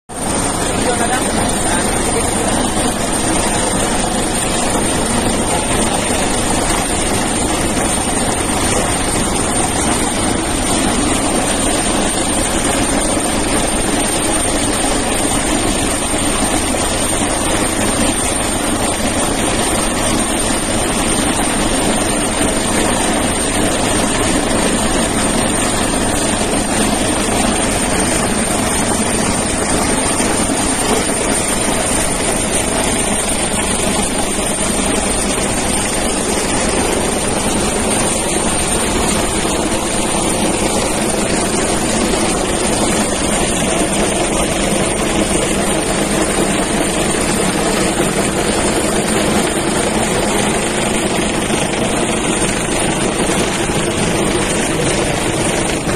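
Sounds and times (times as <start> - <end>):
helicopter hovering: 0.1 - 55.9.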